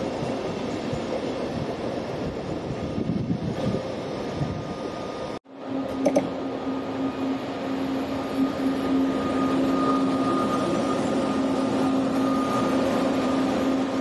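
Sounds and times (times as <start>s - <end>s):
electric locomotive passing: 0.0s - 14.0s.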